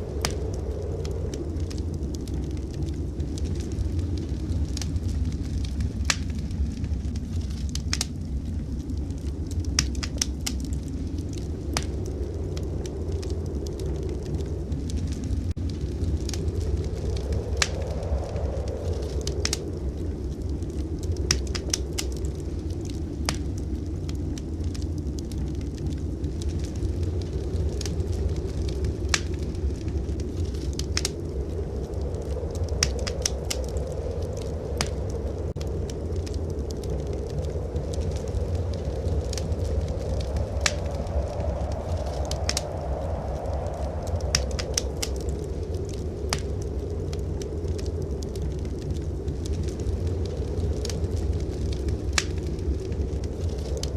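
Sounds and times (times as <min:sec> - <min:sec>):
low fire rumble: 0:00.0 - 0:53.9
wood fire crackling: 0:00.0 - 0:53.9.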